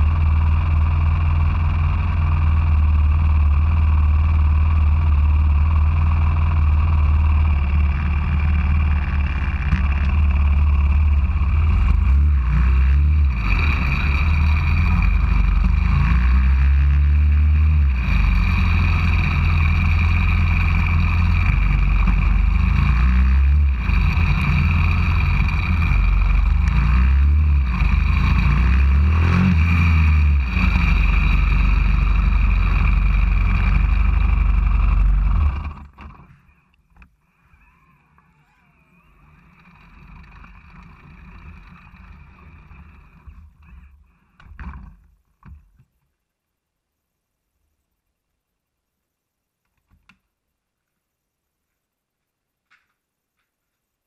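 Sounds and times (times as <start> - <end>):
motorbike engine revving: 0.0 - 36.7, 37.3 - 45.0.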